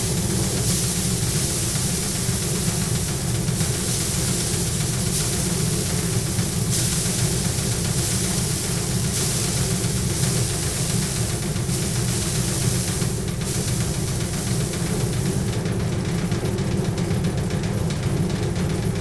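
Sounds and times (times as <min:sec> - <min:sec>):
hissing rush of straw: 0:00.0 - 0:15.6
thresher drum humming: 0:00.0 - 0:19.0.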